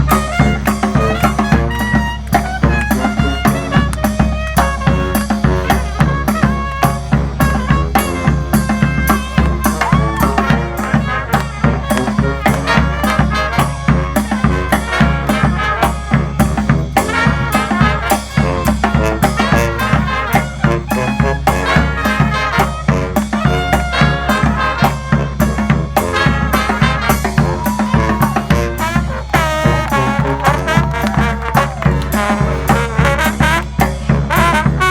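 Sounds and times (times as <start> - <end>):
brass band playing: 0.0 - 34.9
steady drum beat: 0.0 - 34.9.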